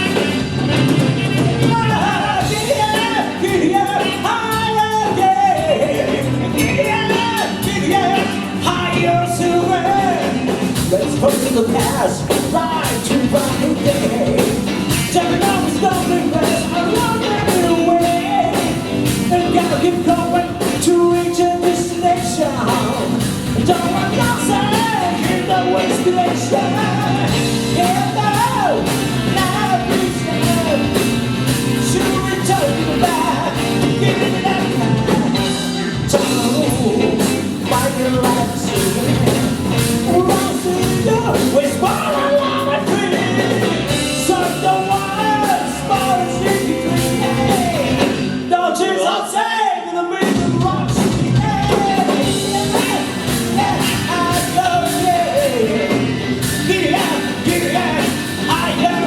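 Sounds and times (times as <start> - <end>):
live rock band playing: 0.0 - 49.0, 50.2 - 59.0.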